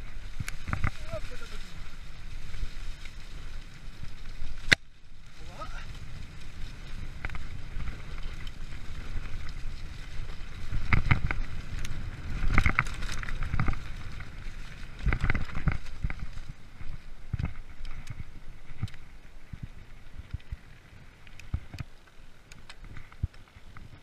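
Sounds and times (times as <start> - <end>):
bike rattling clatter: 0.0 - 24.0
bike tyres rumbling on dirt: 0.0 - 24.0.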